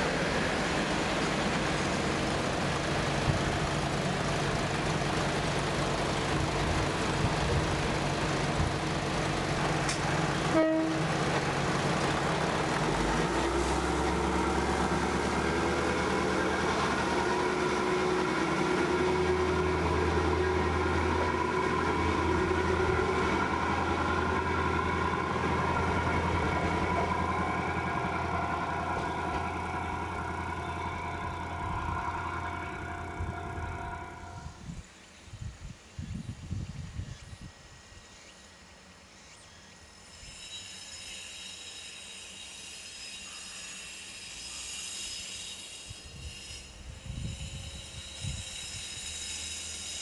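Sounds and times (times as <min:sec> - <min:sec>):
diesel railcar engine droning: 0:00.0 - 0:50.0.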